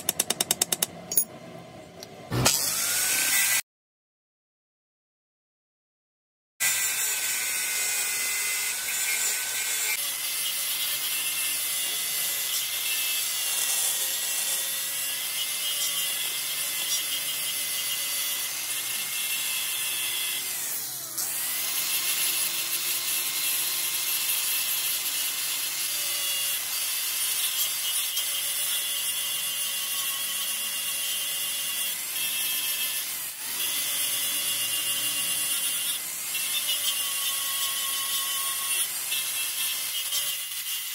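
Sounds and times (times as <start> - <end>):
power tool whining on metal: 2.3 - 3.6, 6.6 - 40.9.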